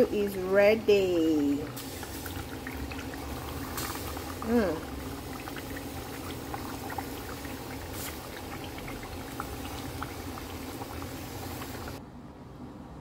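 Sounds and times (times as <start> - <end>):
stew bubbling in a pot: 0.0 - 12.0
small bubbles popping: 1.3 - 12.0.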